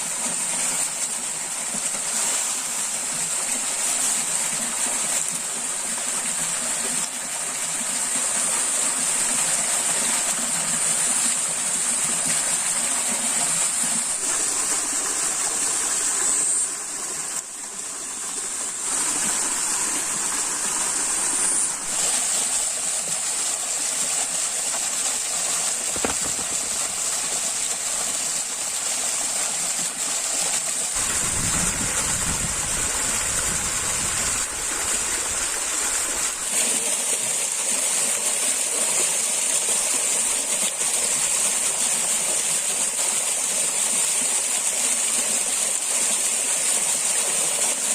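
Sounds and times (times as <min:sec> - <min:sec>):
stream water flowing: 0:00.0 - 0:47.9.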